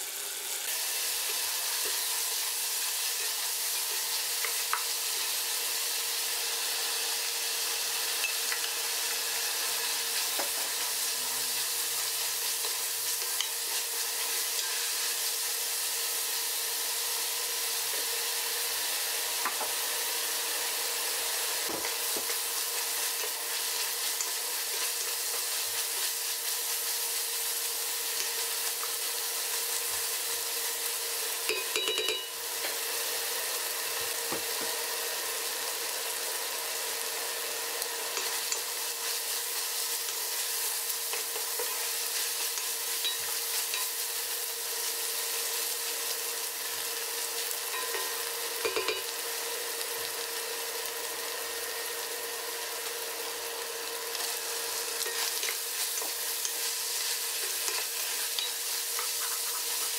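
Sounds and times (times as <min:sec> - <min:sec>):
chicken sizzling in a pot: 0:00.0 - 0:59.9.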